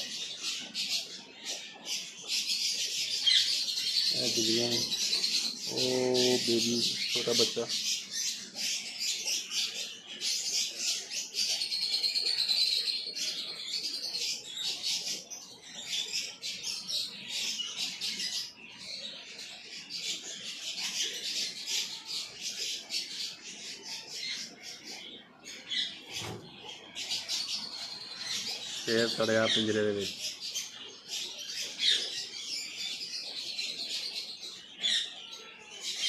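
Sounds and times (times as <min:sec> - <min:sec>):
caged birds chirping: 0:00.0 - 0:36.0
warbling bird song: 0:00.0 - 0:36.0.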